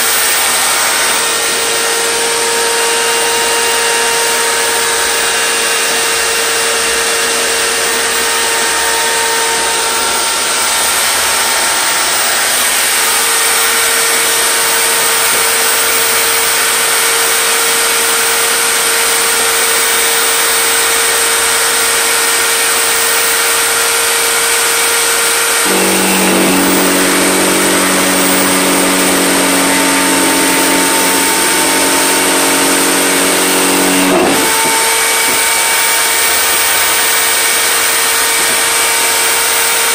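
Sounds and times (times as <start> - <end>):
table-mounted power tool running: 0.0 - 39.9.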